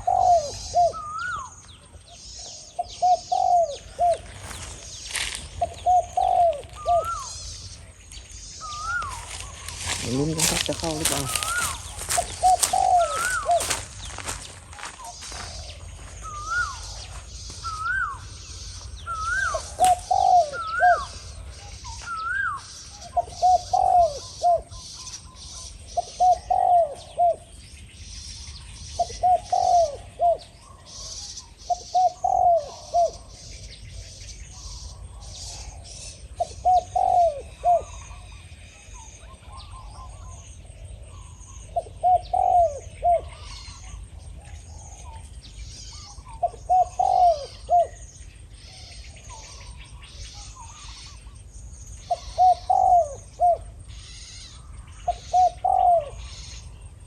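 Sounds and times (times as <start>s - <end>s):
doves cooing: 0.0s - 27.6s, 28.5s - 57.0s
high chirring of birds or insects: 0.0s - 57.0s.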